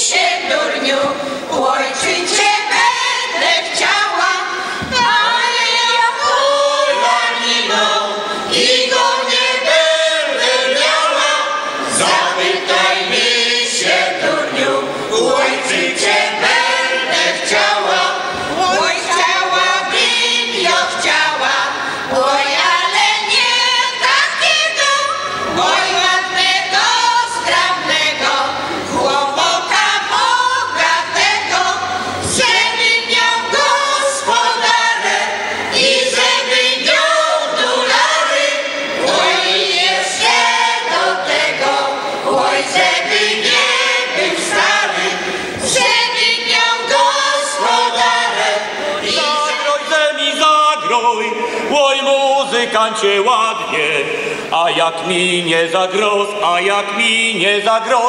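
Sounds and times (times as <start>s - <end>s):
choir singing unaccompanied: 0.0s - 58.0s.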